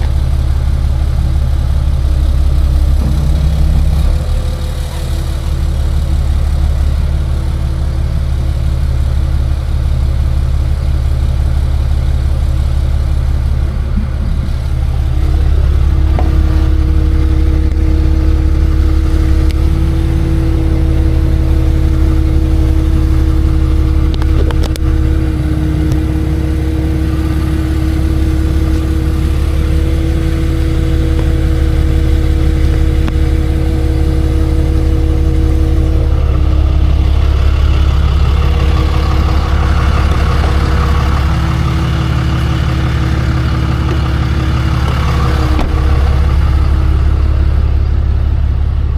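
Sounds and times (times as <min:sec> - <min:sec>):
engine whine: 0:00.0 - 0:48.9
truck engine low drone: 0:00.0 - 0:48.9.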